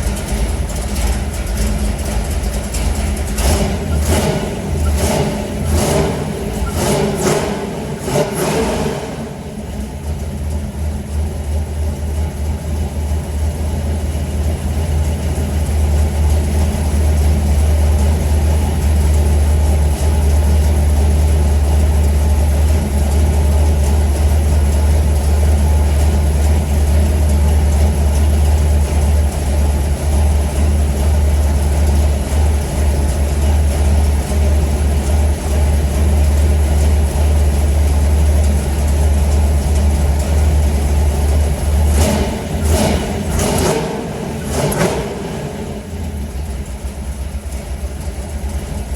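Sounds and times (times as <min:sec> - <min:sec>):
truck engine deep rumble: 0:00.0 - 0:48.9.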